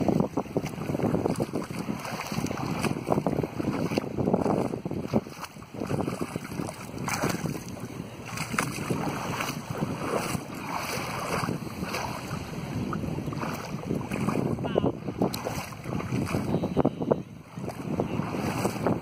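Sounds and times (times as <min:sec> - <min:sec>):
small waves lapping: 0:00.0 - 0:19.0
wind buffeting microphone: 0:00.0 - 0:19.0.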